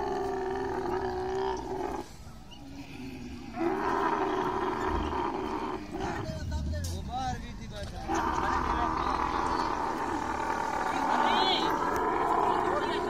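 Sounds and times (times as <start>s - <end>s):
camel bellowing: 0.0s - 6.7s, 7.9s - 13.0s.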